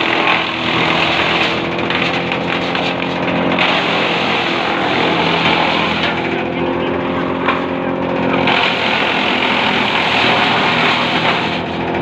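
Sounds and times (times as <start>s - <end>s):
tractor engine running: 0.0s - 12.0s
wood chipper grinding branch: 0.0s - 12.0s.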